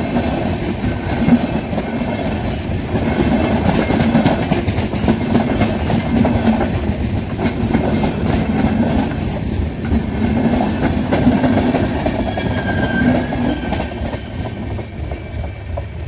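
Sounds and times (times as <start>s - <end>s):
train coaches rumbling past: 0.0s - 16.0s.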